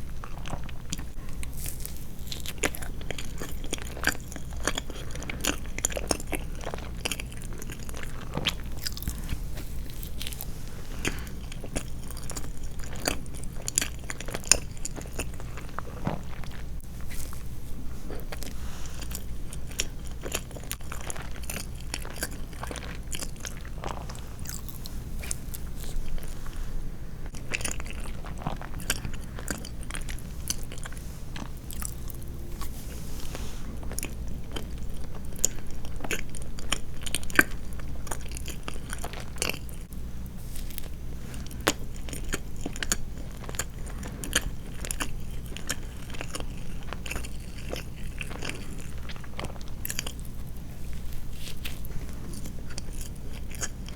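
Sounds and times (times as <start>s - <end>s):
chewing soft sweets: 0.0s - 53.9s.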